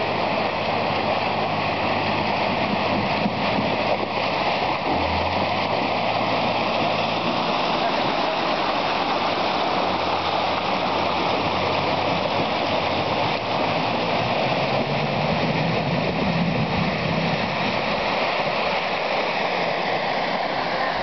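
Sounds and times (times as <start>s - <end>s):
engine droning under load: 0.0s - 21.0s
wheels sloshing through water: 0.0s - 21.0s.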